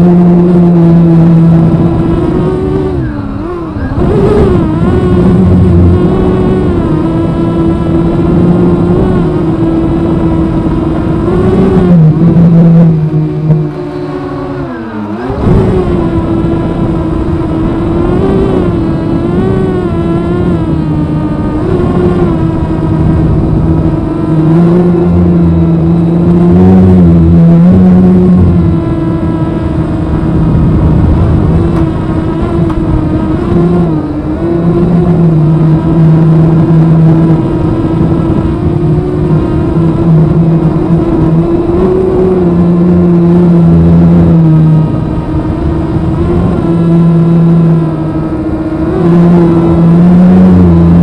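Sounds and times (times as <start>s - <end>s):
quadcopter motors whining: 0.0s - 51.0s.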